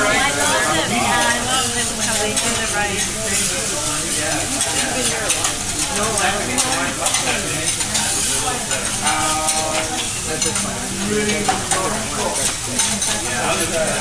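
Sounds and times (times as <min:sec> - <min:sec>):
steaks sizzling on griddle: 0:00.0 - 0:14.0.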